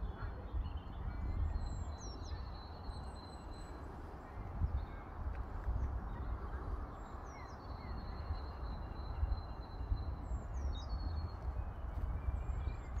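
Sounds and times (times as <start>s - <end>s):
birds singing: 0.0s - 3.9s, 5.8s - 13.0s
wind rumbling on microphone: 0.0s - 13.0s.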